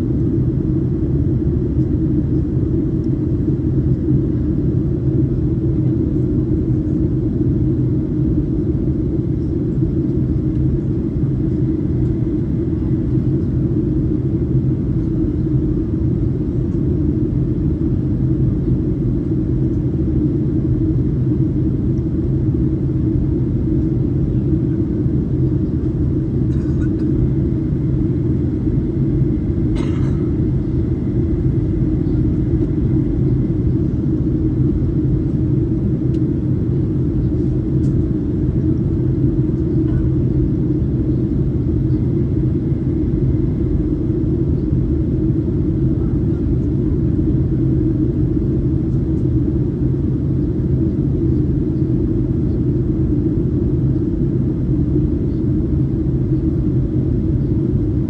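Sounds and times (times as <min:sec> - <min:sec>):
airplane engine drone in cabin: 0:00.0 - 0:58.0.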